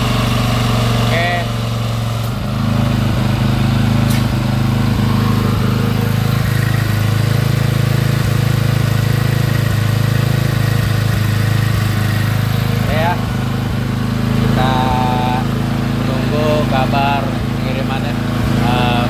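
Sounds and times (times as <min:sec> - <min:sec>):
hydraulic pump engine humming: 0:00.0 - 0:19.0.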